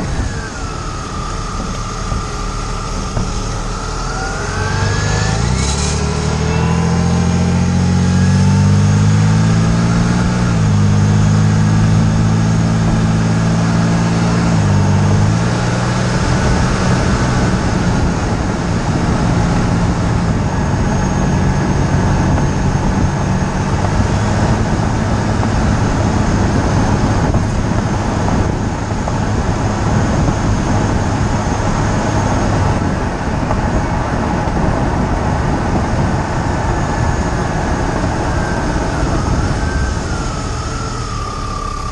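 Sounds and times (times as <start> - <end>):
car engine running: 0.0 - 41.9
tyre and road noise: 0.0 - 41.9.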